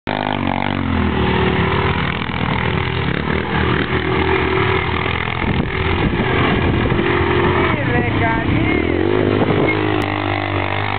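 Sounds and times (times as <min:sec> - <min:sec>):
quad bike engines revving: 0:00.0 - 0:10.9.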